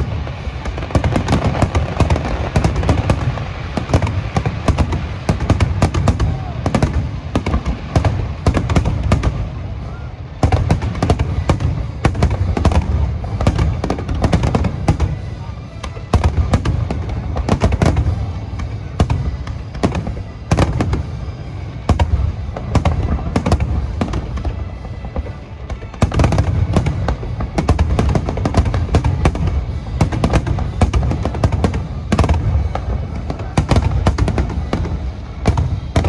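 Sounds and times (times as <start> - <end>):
fireworks bursting: 0.0 - 36.0
music playing: 0.0 - 36.0.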